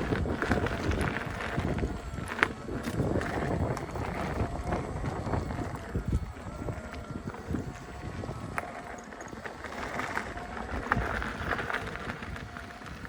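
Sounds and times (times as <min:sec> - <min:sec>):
faint steady whine: 0:00.0 - 0:13.0
tyre rumble on trail: 0:00.0 - 0:13.0
wind buffeting microphone: 0:00.0 - 0:13.0.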